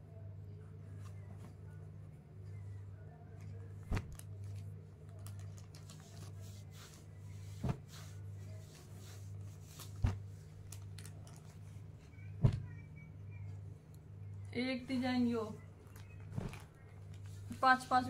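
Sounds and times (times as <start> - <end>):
steady low hum: 0.0 - 18.0
cloth rustling: 0.9 - 12.8, 14.9 - 18.0.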